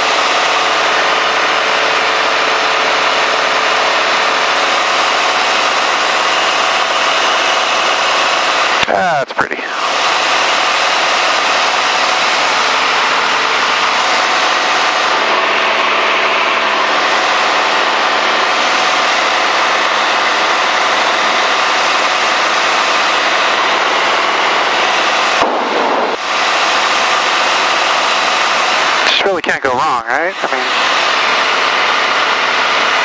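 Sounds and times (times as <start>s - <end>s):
airplane engine and propeller drone: 0.0s - 33.0s.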